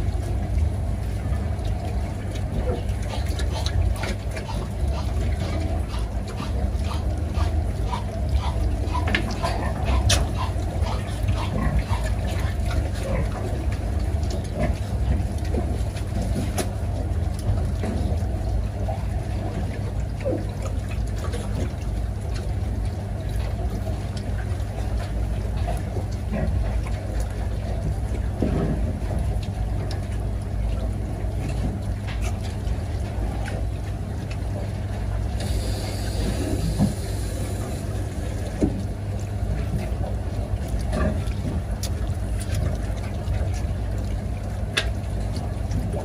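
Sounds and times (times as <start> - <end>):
steady low rumble: 0.0 - 46.0.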